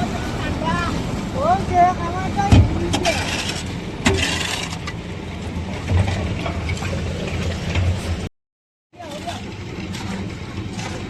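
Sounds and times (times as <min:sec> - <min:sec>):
vehicle engine hum: 0:00.0 - 0:08.3, 0:09.0 - 0:11.0.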